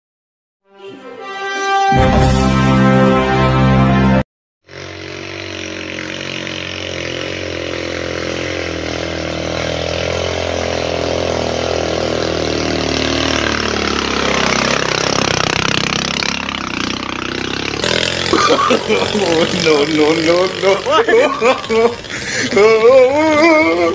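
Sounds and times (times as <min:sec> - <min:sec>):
small motorcycle engine passing: 0:04.7 - 0:23.9.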